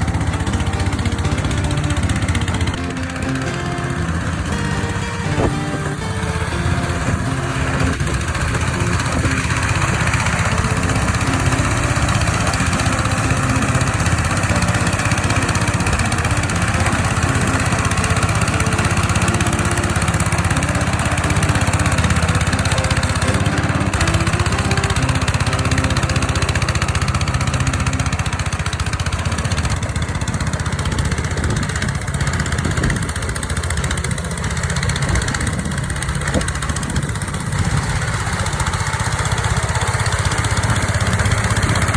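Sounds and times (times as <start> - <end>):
plough engine running: 0.0 - 41.9.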